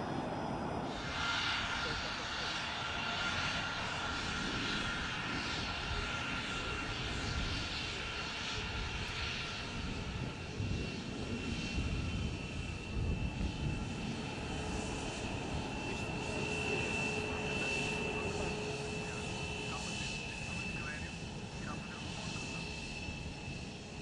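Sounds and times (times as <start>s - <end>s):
jet engines whining: 0.0s - 24.0s.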